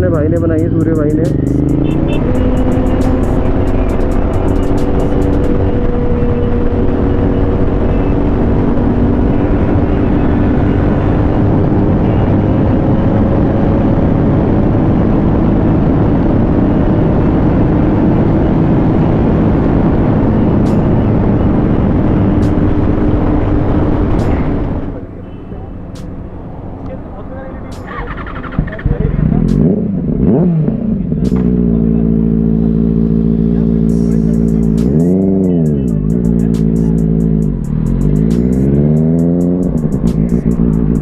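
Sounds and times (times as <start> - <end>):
motorcycle engine cruising: 0.0 - 41.0
wind and road noise: 0.0 - 41.0.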